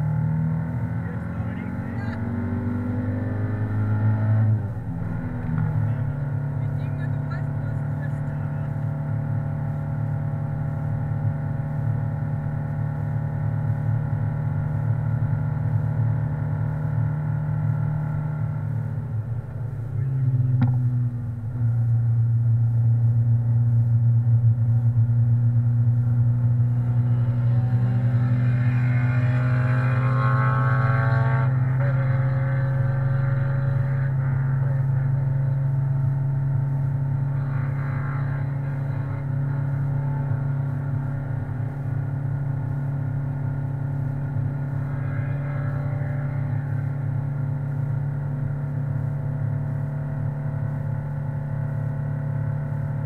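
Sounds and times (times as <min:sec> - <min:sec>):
sports car engine pulling uphill: 0:00.0 - 0:53.0.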